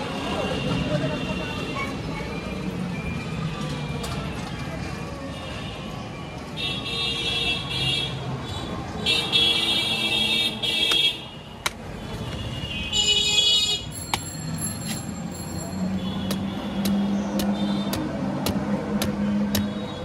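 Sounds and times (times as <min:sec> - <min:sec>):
steady traffic noise: 0:00.0 - 0:20.0.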